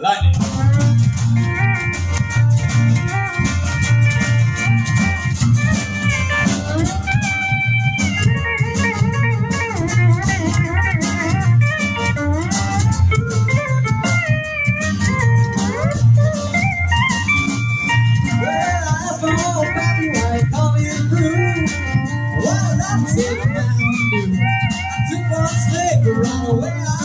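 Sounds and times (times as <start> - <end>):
drums: 0.0 - 27.0
upright bass: 0.0 - 27.0
strummed acoustic guitar: 0.2 - 27.0
lap steel guitar sliding lead: 0.3 - 27.0.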